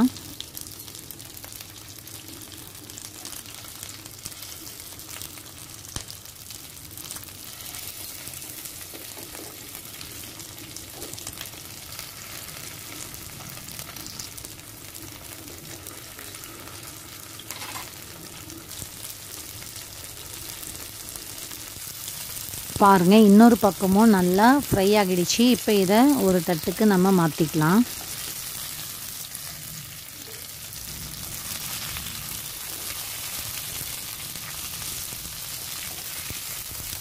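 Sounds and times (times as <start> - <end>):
fish sizzling in oil: 0.0 - 37.0.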